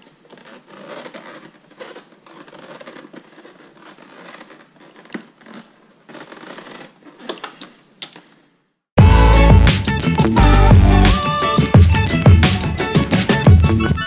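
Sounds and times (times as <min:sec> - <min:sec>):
rubbing and scraping: 0:00.0 - 0:07.8, 0:09.2 - 0:14.0.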